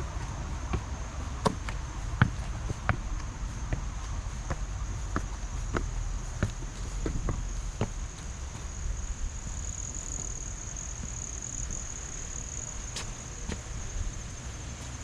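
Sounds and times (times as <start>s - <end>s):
insect chorus trilling: 0.0s - 15.0s
low outdoor rumble: 0.0s - 15.0s.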